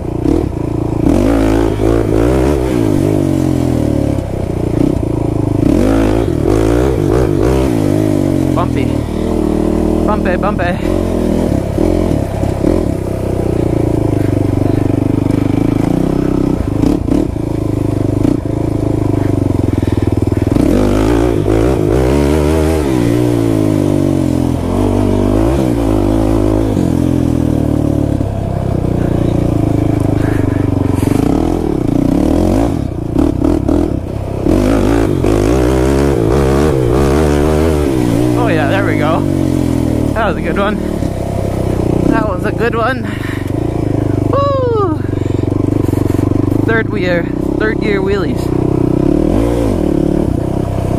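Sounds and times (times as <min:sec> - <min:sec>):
quad engine revving under load: 0:00.0 - 0:50.9.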